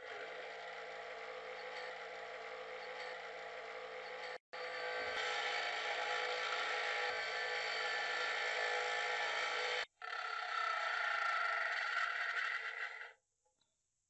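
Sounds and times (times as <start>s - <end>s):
grinder grinding steel: 0.0s - 13.2s.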